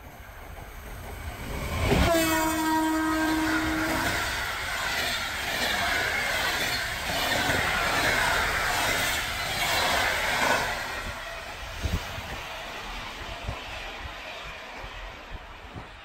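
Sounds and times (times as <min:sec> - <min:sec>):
train rushing past: 0:00.0 - 0:16.0.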